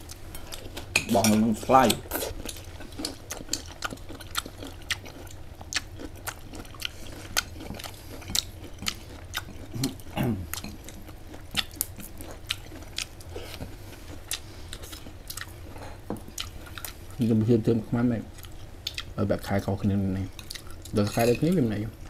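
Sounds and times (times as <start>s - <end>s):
person chewing and crunching food: 0.0s - 17.4s, 18.2s - 22.0s.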